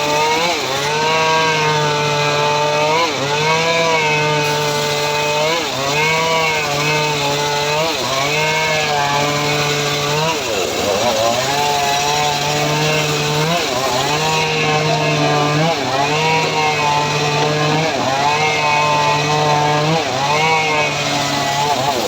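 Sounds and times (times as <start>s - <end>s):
sawmill engine cutting wood: 0.0s - 22.0s.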